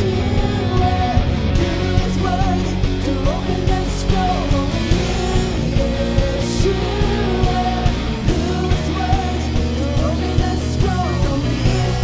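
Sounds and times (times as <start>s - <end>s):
drums keeping a steady beat: 0.0s - 12.0s
electric guitar: 0.0s - 12.0s
keyboard: 0.0s - 12.0s
woman singing lead vocal: 0.0s - 12.0s.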